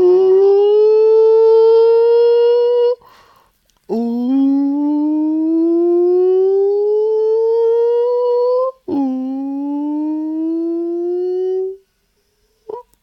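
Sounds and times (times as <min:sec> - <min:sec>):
person singing gliding vocal tone: 0:00.0 - 0:03.0, 0:03.9 - 0:11.9, 0:12.6 - 0:13.0.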